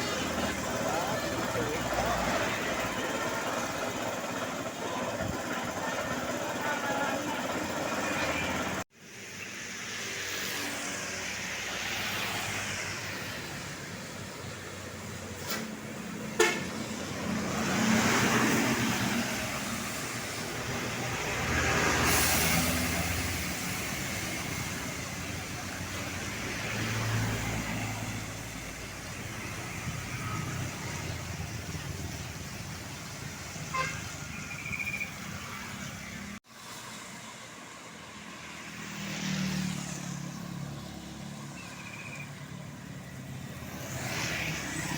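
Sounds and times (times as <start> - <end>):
steady road noise: 0.0 - 44.9
vehicles passing by: 0.0 - 44.9.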